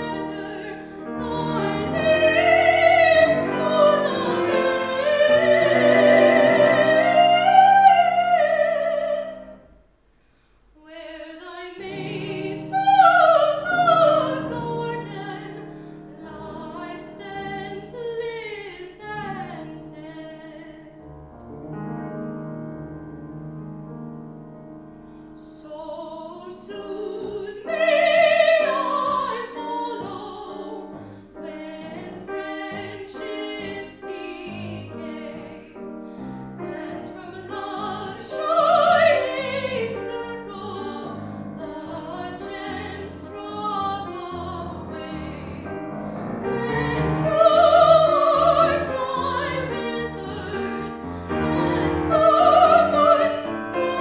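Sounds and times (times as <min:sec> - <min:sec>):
operatic singing with vibrato: 0:00.0 - 0:09.7, 0:10.8 - 0:21.0, 0:25.4 - 0:54.0
piano accompaniment: 0:00.0 - 0:09.8, 0:11.8 - 0:54.0.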